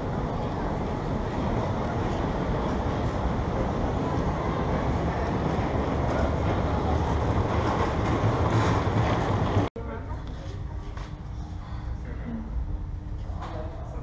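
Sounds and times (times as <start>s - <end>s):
rumbling subway station noise: 0.0s - 14.0s.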